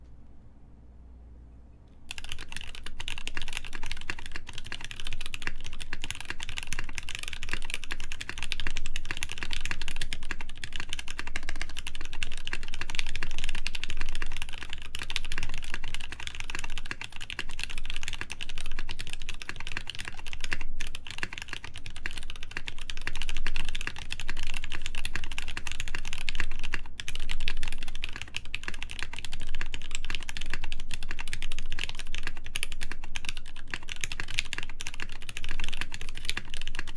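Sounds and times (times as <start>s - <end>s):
fast typing on a mechanical keyboard: 2.1s - 36.9s.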